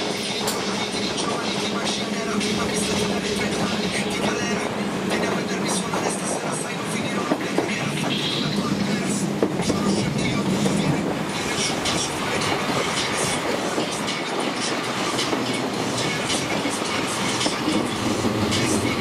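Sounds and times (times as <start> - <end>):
train running and wind noise: 0.0 - 19.0.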